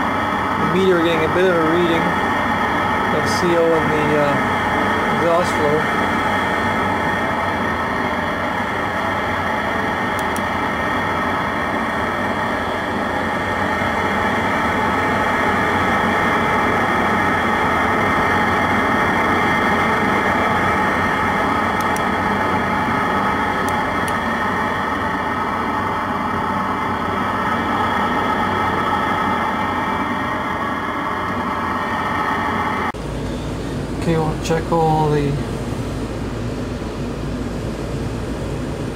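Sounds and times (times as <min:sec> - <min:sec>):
fan hum: 0:00.0 - 0:38.9
gas rushing from vent pipe: 0:00.0 - 0:38.9.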